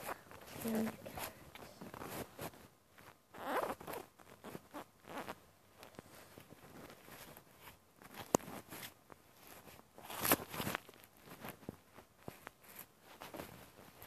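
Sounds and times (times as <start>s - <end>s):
phone rustling against fabric: 0.0s - 14.0s.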